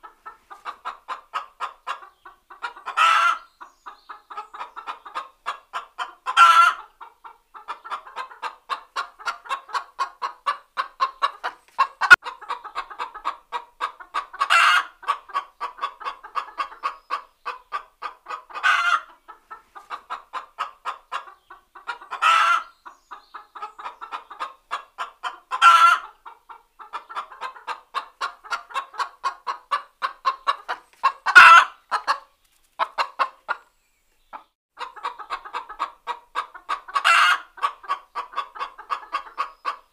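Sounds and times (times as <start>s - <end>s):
hen cackling: 0.0s - 33.7s, 34.3s - 39.9s.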